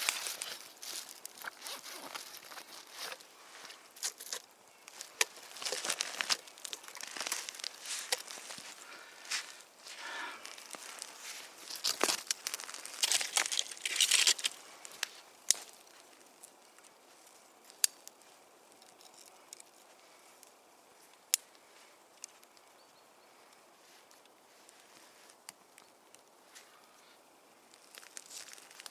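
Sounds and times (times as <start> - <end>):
kindling crackling and snapping: 0.0 - 22.7, 27.6 - 28.9.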